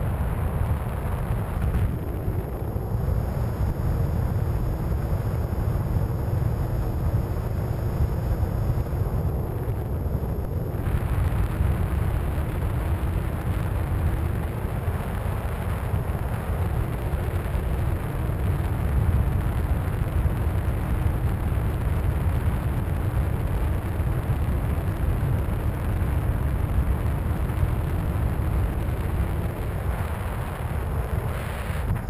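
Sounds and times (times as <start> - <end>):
wind rush over camera: 0.0 - 32.0.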